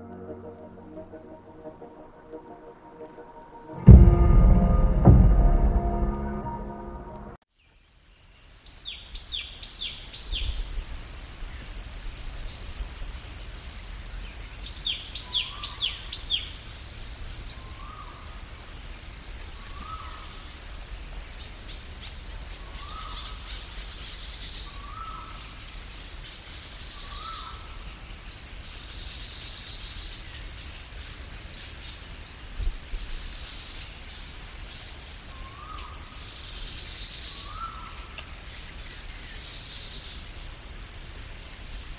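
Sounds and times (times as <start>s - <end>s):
high insect drone: 7.8s - 41.9s.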